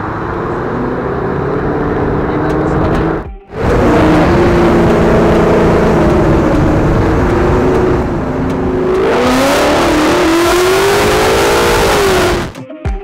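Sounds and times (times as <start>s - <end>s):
car engine accelerating: 0.0s - 12.6s.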